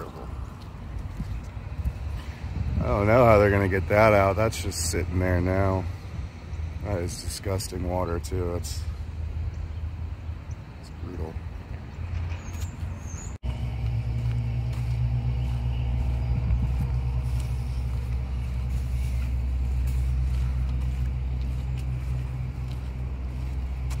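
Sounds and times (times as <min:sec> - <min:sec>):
engine running low rumble: 0:00.0 - 0:24.0.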